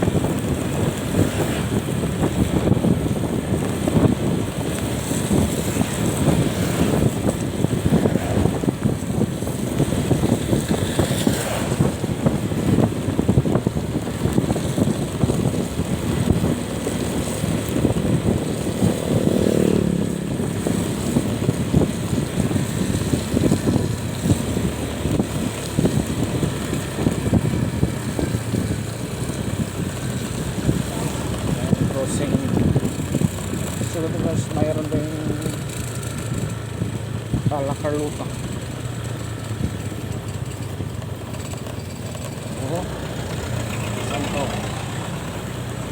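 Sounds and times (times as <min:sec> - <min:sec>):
vehicle engine and road noise: 0:00.0 - 0:45.9
wind buffeting microphone: 0:00.0 - 0:45.9.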